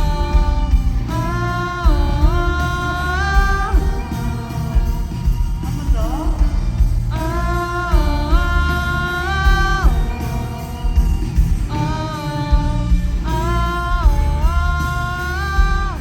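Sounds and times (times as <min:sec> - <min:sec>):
lead vocal singing long notes: 0:00.0 - 0:16.0
live amplified band music: 0:00.0 - 0:16.0.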